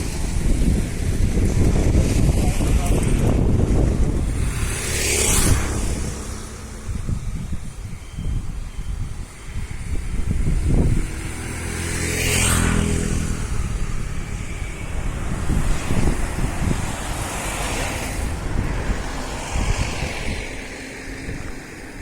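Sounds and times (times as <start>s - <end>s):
vehicle passing by: 0.0s - 22.0s
wind buffeting microphone: 0.0s - 22.0s.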